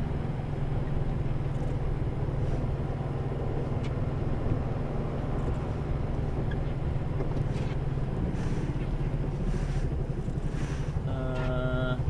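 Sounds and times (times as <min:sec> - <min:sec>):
diesel lorry engine rumbling: 0:00.0 - 0:12.0.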